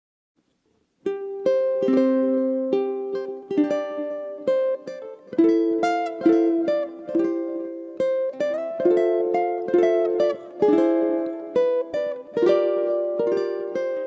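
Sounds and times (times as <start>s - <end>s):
solo ukulele music: 0.5s - 14.0s.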